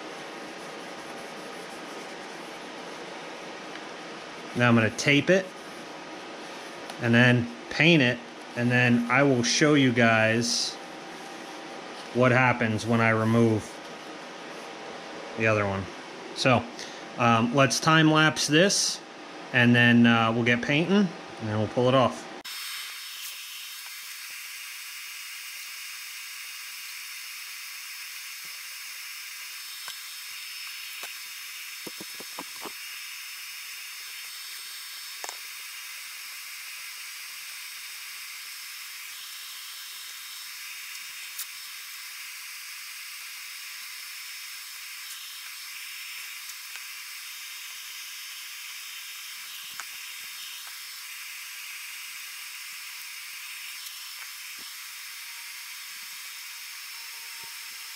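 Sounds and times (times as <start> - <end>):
steady hiss: 0.0 - 20.8, 22.0 - 57.9.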